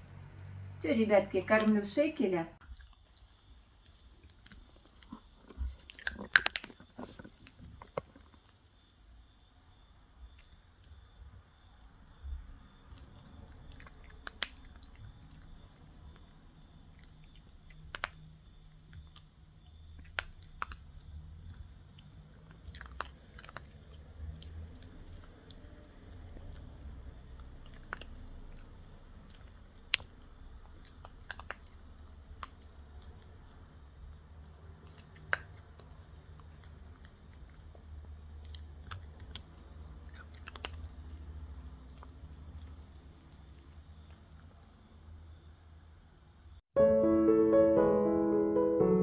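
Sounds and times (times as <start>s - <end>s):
pet chewing and crunching: 2.6s - 8.8s, 10.3s - 44.7s.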